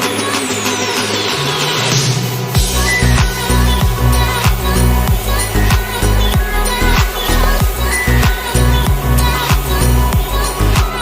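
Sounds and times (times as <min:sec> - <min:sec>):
music with deep bass drum: 0:01.9 - 0:11.0.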